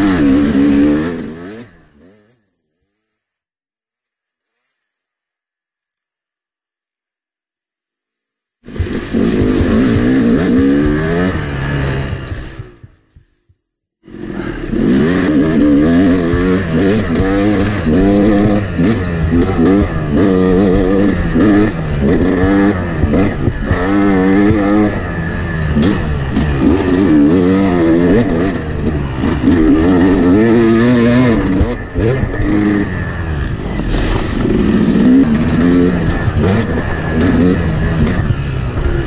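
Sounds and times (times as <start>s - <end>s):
dirt bike engine revving: 0.0s - 2.6s, 8.6s - 13.0s, 14.0s - 39.0s.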